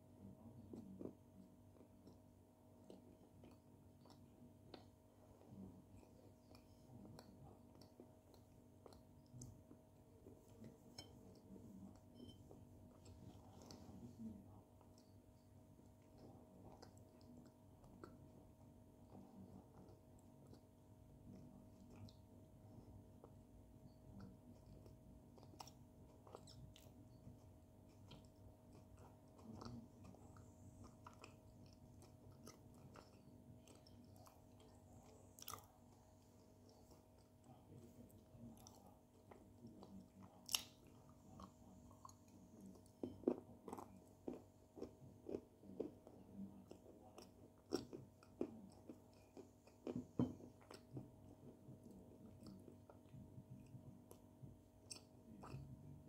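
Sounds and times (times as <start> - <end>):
crunchy clay chewing: 0.2 - 56.0.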